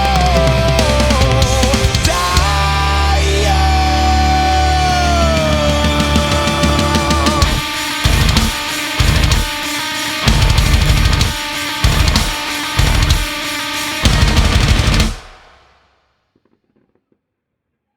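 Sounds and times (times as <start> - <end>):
heavy rock music: 0.0 - 15.4.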